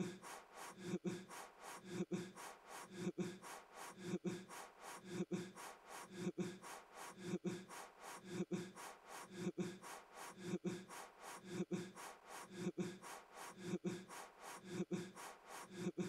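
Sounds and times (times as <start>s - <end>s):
puffs of breath blowing: 0.0s - 16.0s.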